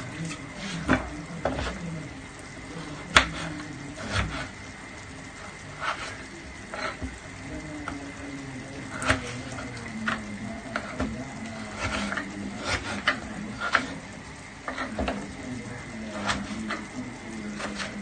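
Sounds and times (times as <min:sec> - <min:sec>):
faint sizzle: 0:00.0 - 0:18.0
utensils clicking and scraping: 0:00.0 - 0:18.0.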